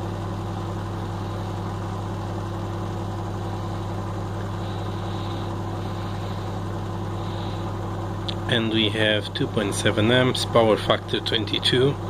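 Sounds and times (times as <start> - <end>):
microwave oven hum and fan: 0.0 - 12.0.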